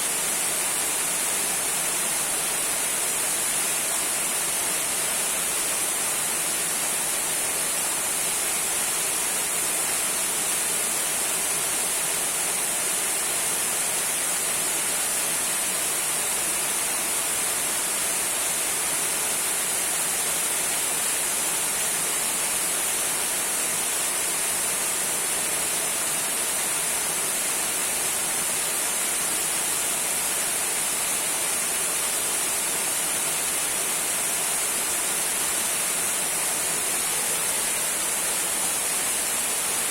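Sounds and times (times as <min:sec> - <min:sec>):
waterfall hiss: 0:00.0 - 0:39.9.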